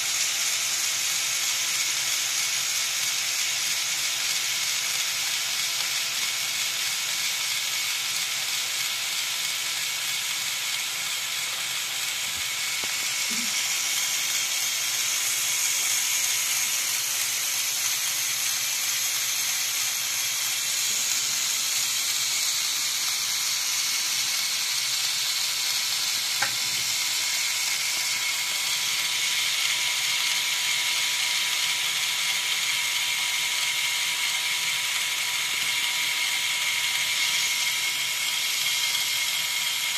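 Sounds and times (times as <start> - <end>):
small electric motor whirring: 0.0 - 39.9.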